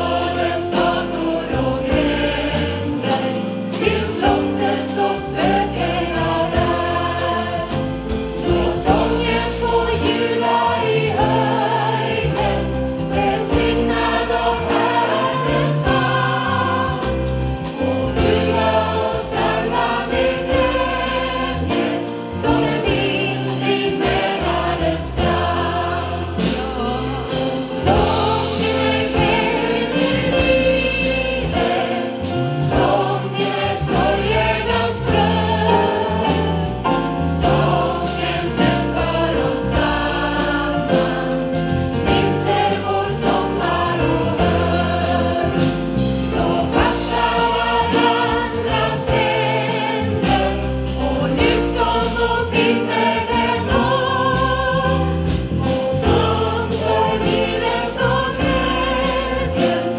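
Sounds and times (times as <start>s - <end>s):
choir singing upbeat song: 0.0s - 59.9s
keyboard and drums: 0.0s - 59.9s.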